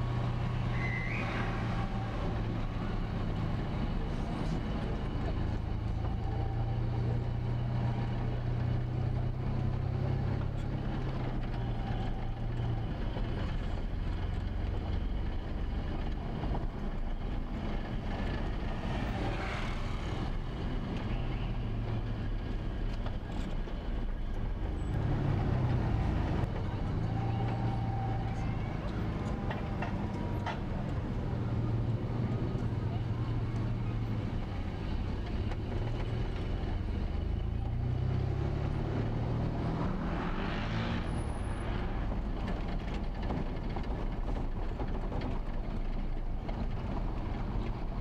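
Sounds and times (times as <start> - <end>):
road and traffic noise: 0.0 - 48.0
vehicle engine hum: 0.0 - 48.0.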